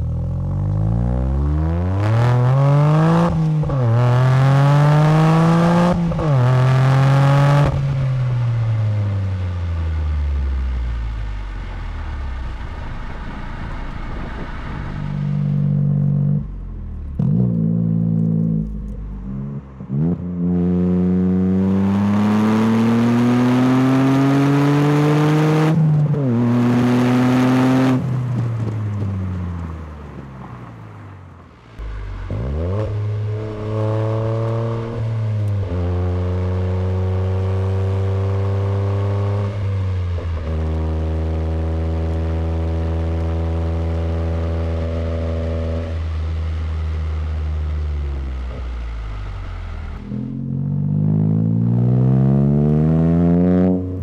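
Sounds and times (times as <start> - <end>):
car exhaust revving and shifting: 0.0 - 54.0
second car exhaust accelerating: 0.0 - 54.0.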